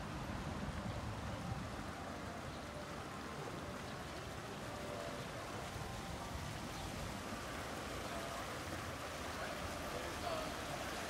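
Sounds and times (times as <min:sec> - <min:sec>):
boat wake water washing: 0:00.0 - 0:11.0.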